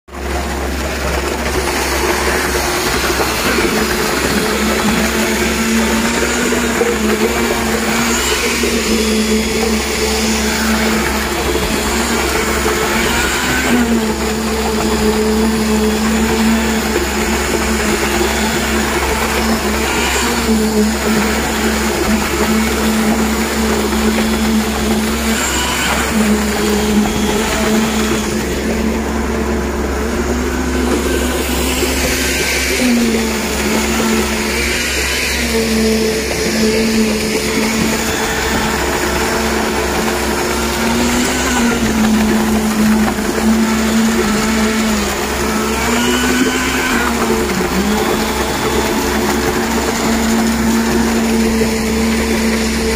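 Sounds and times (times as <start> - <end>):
concrete vibrator motor whine: 0.1 - 52.9.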